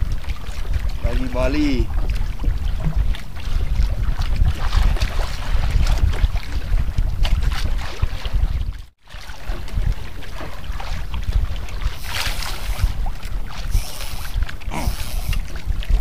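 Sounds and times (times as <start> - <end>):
sea water washing along boat: 0.0 - 16.0
wind buffeting microphone: 0.0 - 16.0.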